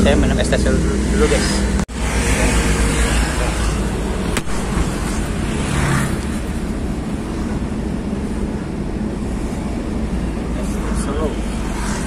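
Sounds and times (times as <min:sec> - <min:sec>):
road noise: 0:00.0 - 0:12.0
van engine drone: 0:00.0 - 0:12.0.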